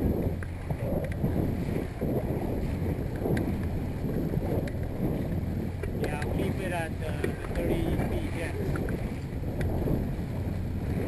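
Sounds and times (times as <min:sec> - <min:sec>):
choppy water against hull: 0:00.0 - 0:11.0
outboard motor running: 0:00.0 - 0:11.0
wind buffeting microphone: 0:00.0 - 0:11.0.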